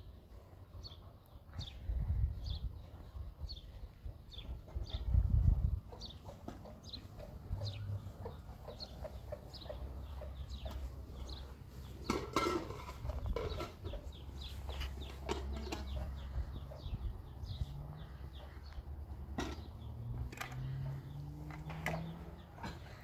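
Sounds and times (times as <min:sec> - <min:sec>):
chickens clucking: 0:04.1 - 0:23.0.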